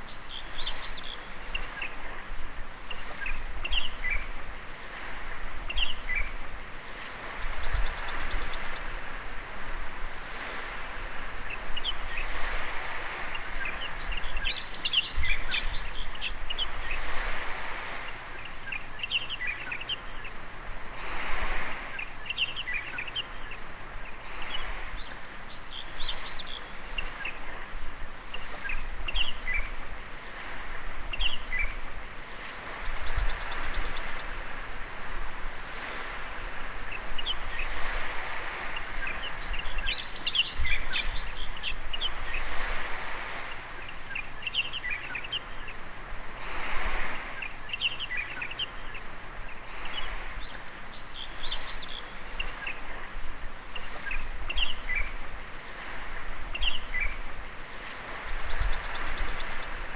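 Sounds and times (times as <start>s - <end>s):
birds chirping: 0.0s - 6.5s, 7.1s - 9.4s, 10.4s - 20.4s, 21.7s - 59.9s
small waves washing onto beach: 0.0s - 59.9s.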